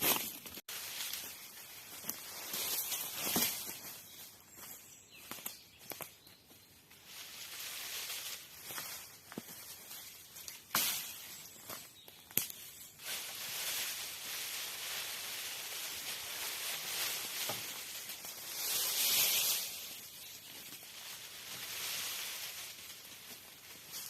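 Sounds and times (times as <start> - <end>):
rustling hiss outdoors: 0.0 - 24.0.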